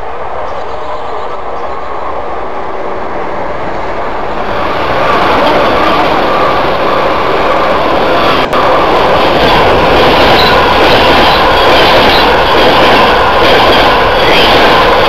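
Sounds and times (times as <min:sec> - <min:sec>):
freight train passing: 0:00.0 - 0:15.0.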